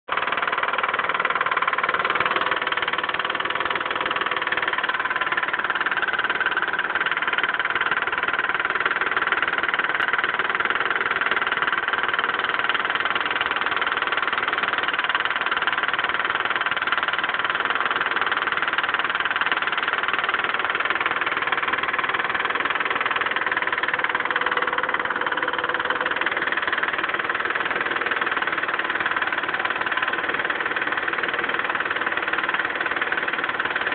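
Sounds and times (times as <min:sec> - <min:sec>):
car engine idling: 0:00.1 - 0:33.9
engine lifter ticking: 0:00.1 - 0:33.9.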